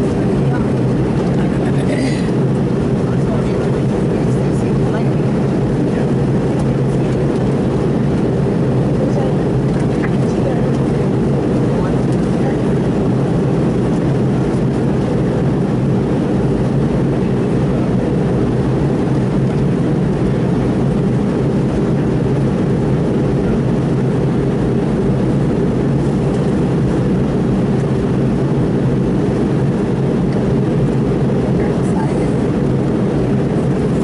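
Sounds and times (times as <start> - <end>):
airliner cabin drone: 0.0 - 34.0.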